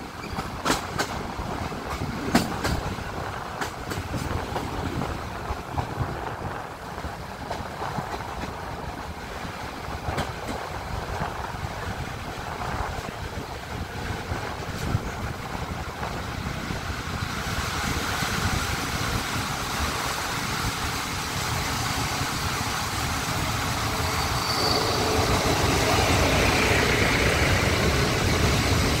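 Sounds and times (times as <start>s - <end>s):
diesel locomotive running: 0.0s - 29.0s
train rumble and rail noise: 0.0s - 29.0s.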